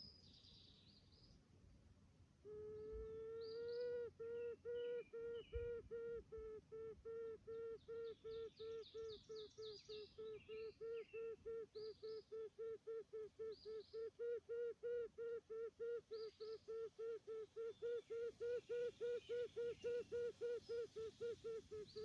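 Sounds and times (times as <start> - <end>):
faint songbird chirps: 0.0 - 1.4, 2.5 - 22.0.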